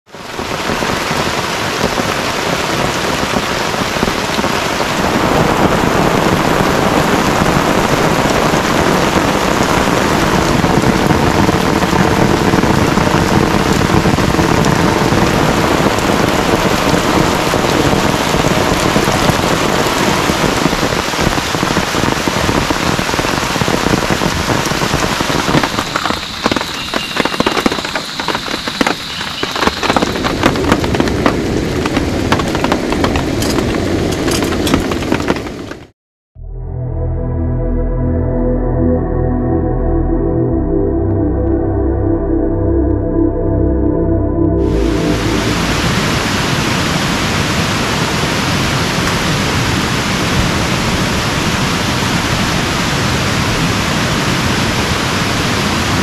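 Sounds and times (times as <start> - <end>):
heavy rain pouring: 0.0 - 35.9, 44.5 - 56.0.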